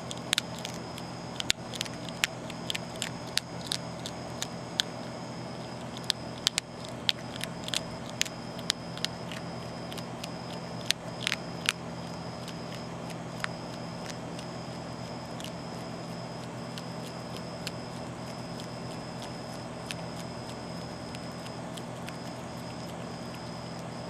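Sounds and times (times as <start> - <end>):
opossum crunching dry kibble: 0.0 - 24.0.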